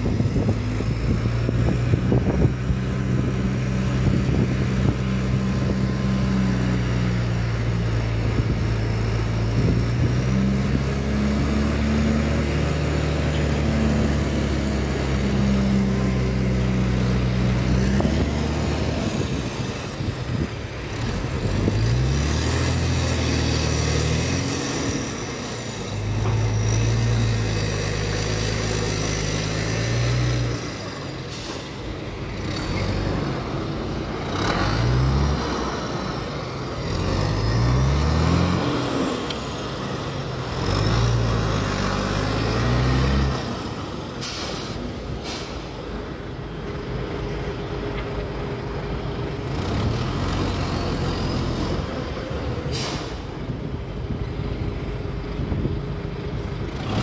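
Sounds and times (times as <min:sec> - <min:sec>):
heavy diesel engines under load: 0:00.0 - 0:57.0.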